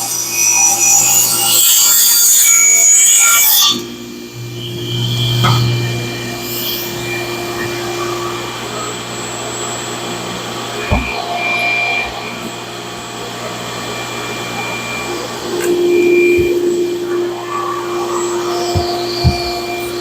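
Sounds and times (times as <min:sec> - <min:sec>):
dust extractor droning: 0:00.0 - 0:20.0
faint high whine: 0:00.0 - 0:20.0.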